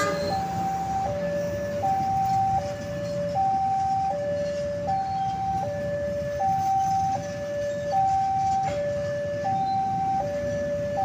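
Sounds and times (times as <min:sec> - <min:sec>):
train coaches rumbling past: 0:00.0 - 0:11.0
two-tone electronic warning alarm: 0:00.0 - 0:11.0.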